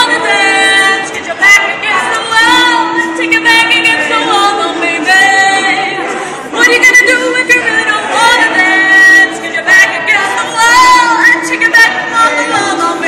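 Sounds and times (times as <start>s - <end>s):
vocal group singing in harmony: 0.0s - 13.0s.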